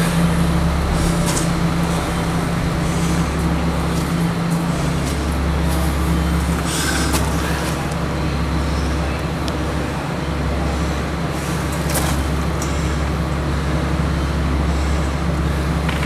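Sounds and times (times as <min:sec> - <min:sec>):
road traffic noise: 0:00.0 - 0:16.0
vehicle engine drone: 0:00.0 - 0:16.0.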